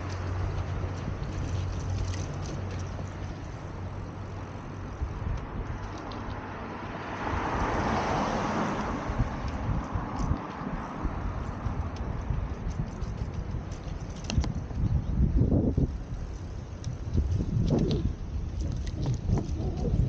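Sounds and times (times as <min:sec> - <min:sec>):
vehicle passing: 0:00.0 - 0:20.0.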